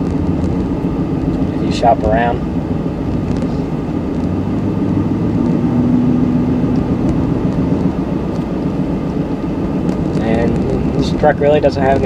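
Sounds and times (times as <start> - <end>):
engine drone inside cab: 0.0 - 12.0.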